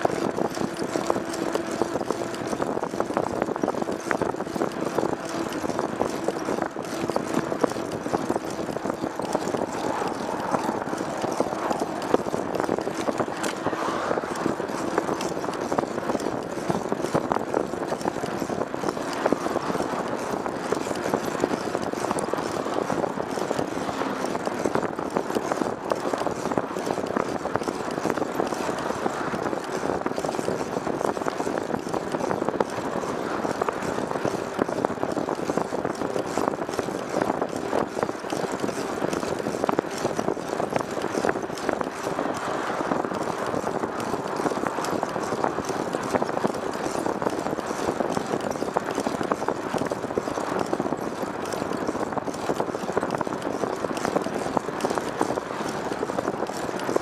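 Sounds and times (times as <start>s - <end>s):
vehicle low hum: 0.0s - 56.2s
small clicks and rattles: 0.0s - 57.0s.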